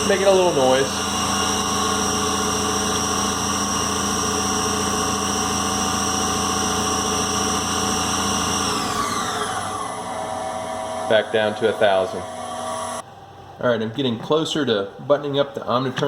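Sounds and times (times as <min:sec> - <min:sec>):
lathe spindle high whine: 0:00.0 - 0:13.0.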